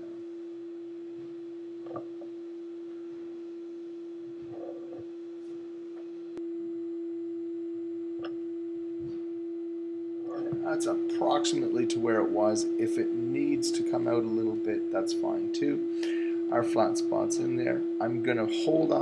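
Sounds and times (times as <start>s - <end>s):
steady single-pitched hum: 0.0s - 19.0s.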